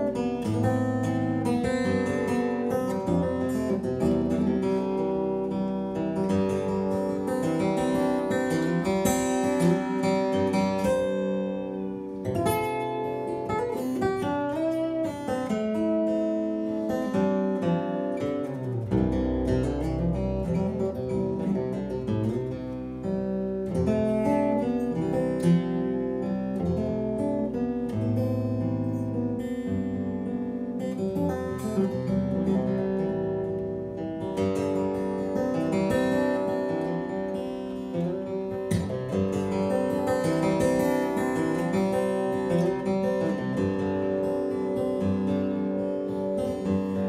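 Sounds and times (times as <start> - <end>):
acoustic guitar playing: 0.0 - 47.0.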